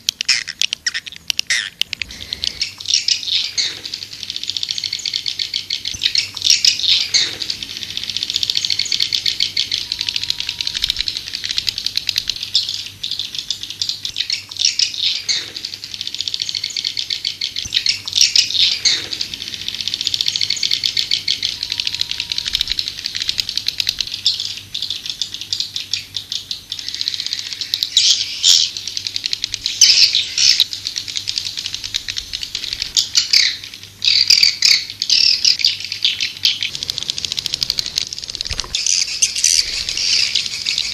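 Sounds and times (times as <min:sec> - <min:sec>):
swiftlets calling: 0:00.0 - 0:13.3, 0:16.4 - 0:24.6, 0:27.3 - 0:40.9.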